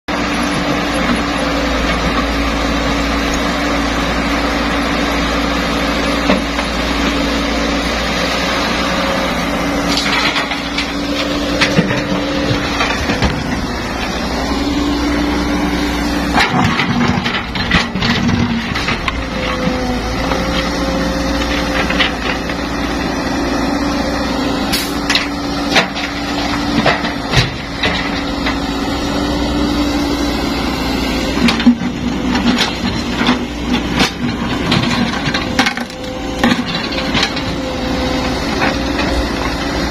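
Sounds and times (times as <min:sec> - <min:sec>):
excavator diesel engine running: 0:00.1 - 0:39.9.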